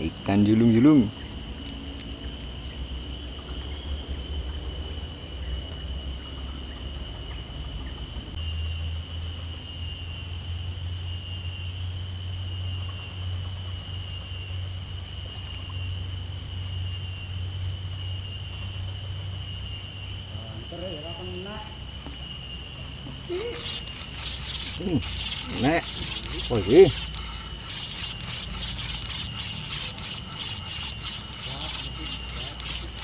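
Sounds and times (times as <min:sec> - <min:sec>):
insects singing: 0:00.0 - 0:33.0.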